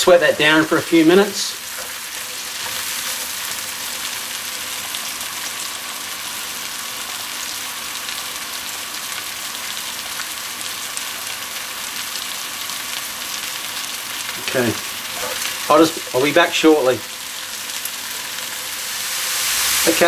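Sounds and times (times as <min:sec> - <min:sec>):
mushrooms sizzling in a frying pan: 0:00.0 - 0:20.0.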